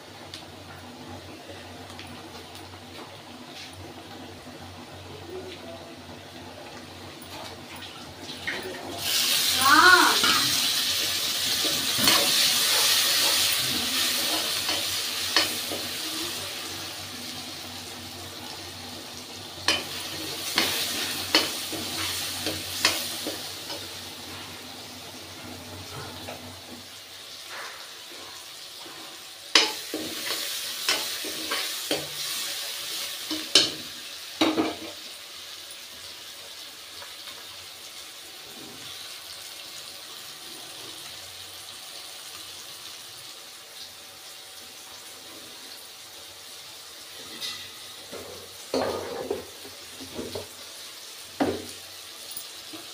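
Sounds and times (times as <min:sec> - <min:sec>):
tomatoes sizzling in hot oil: 0:00.0 - 0:52.9.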